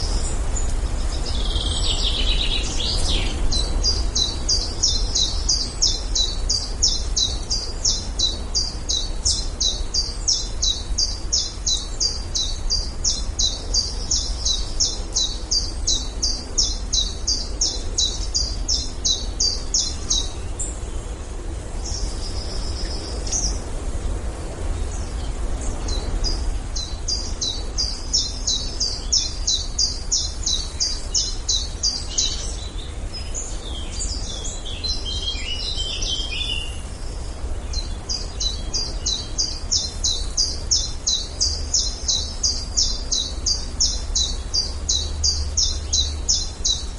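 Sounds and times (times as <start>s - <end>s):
low wind rumble: 0.0s - 46.9s.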